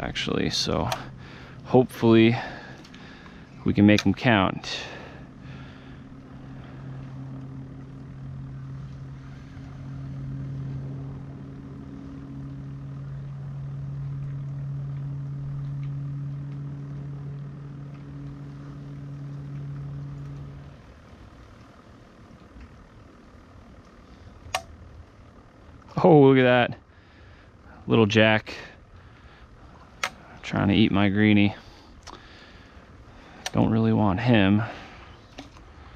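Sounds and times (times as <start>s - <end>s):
motorboat engine running: 0.0s - 35.9s.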